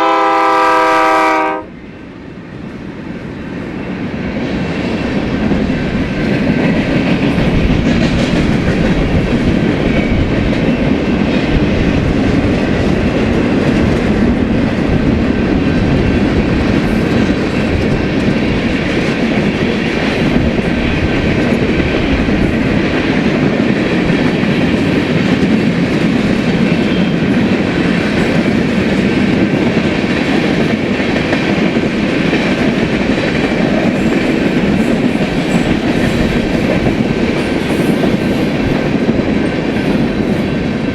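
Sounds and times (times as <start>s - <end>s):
railcars clickety-clack: 0.0s - 40.9s
steel wheels rumbling on rails: 0.0s - 40.9s.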